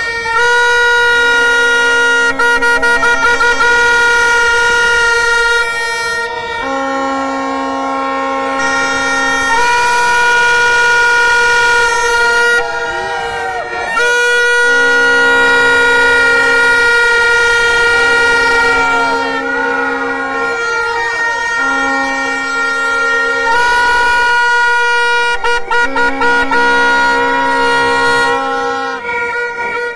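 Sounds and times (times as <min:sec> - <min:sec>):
crowd blowing hand-held horns: 0:00.0 - 0:29.9.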